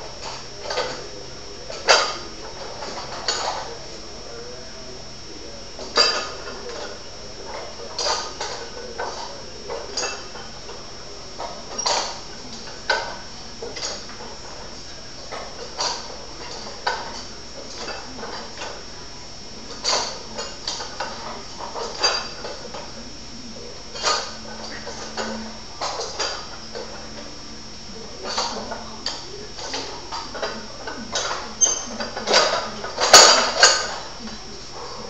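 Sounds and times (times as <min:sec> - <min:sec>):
dumbbell plates clanking: 0:00.0 - 0:04.0, 0:05.7 - 0:23.0, 0:23.7 - 0:27.4, 0:28.0 - 0:35.0.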